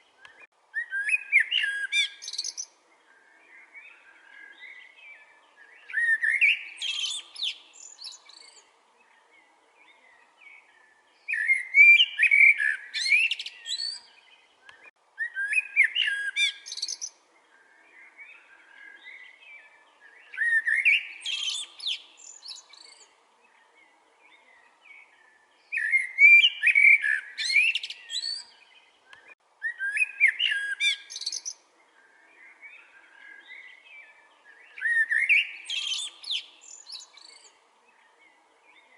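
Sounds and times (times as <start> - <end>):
quiet bird chirping: 0.0 - 38.9
songbird singing: 0.0 - 38.9.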